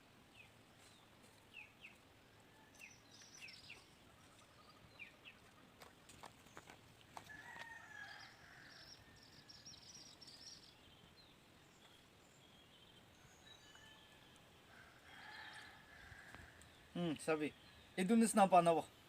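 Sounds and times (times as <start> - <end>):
distant birds chirping: 0.3 - 19.0.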